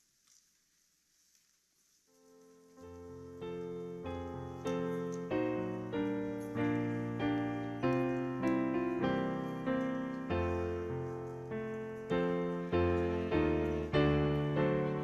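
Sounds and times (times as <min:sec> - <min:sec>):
piano playing slow chords: 0:02.6 - 0:15.0.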